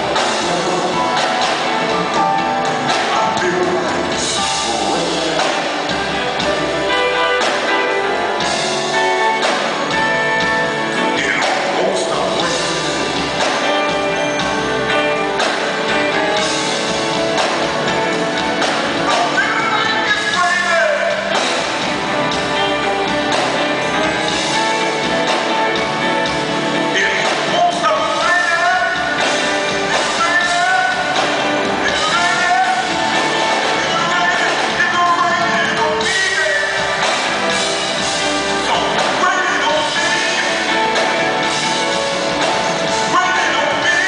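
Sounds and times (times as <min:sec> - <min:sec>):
electric guitar: 0:00.0 - 0:44.0
keyboard: 0:00.0 - 0:44.0.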